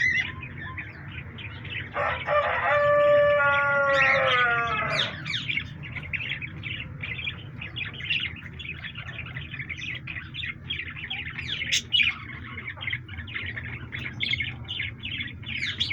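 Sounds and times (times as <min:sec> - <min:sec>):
parrots chirping and chattering: 0:00.0 - 0:15.9.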